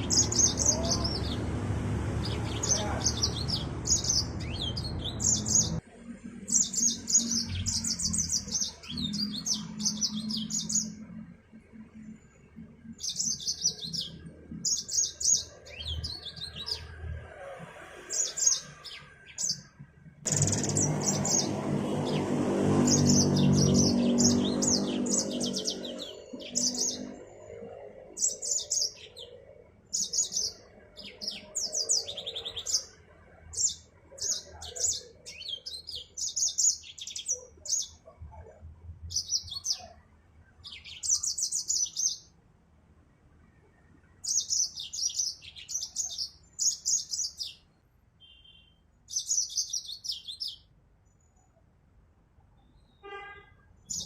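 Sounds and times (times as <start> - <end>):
finch chirping song: 0.0 - 11.3, 12.8 - 17.1, 18.1 - 19.7, 20.3 - 38.1, 39.0 - 42.4, 44.1 - 51.4.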